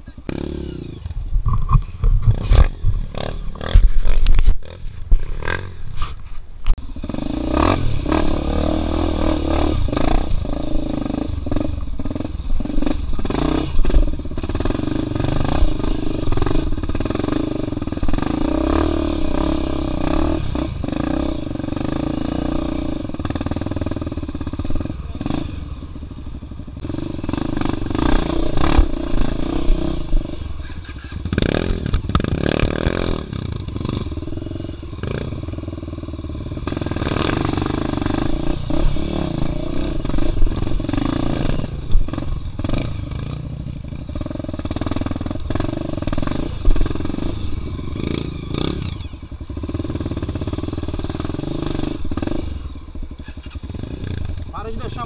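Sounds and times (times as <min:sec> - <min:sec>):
dirt bike engine revving: 0:00.0 - 0:06.0, 0:06.8 - 0:55.0.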